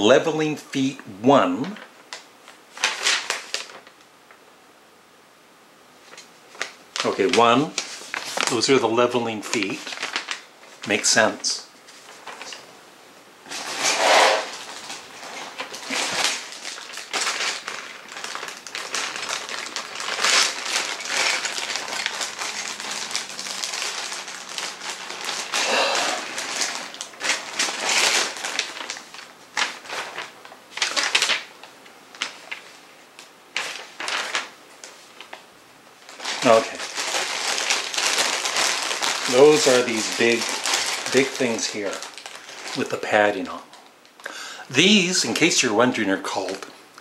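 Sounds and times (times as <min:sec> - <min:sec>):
packaging rustling and crinkling: 0:01.4 - 0:04.4, 0:06.0 - 0:12.7, 0:13.4 - 0:47.0.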